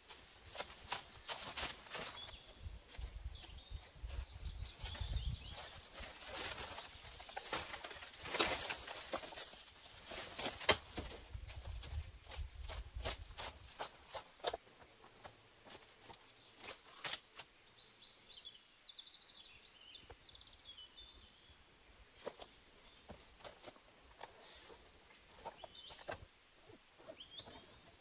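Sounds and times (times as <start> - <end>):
small songbird chirping and trilling: 0.5 - 8.0, 11.2 - 28.0.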